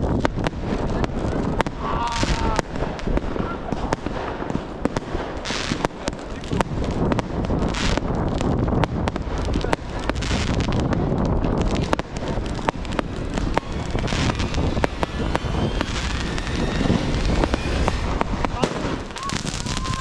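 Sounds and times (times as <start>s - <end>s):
fireworks bangs and crackles: 0.0s - 20.0s
wind buffeting microphone: 0.0s - 20.0s.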